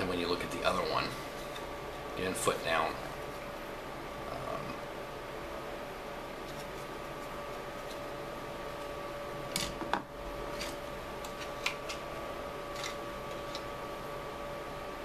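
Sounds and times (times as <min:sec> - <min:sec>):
faint hiss and hum: 0:00.0 - 0:15.0.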